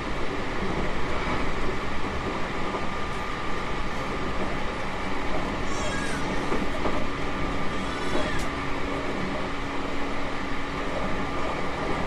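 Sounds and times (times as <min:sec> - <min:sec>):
electric train wheels rumbling: 0:00.0 - 0:12.0.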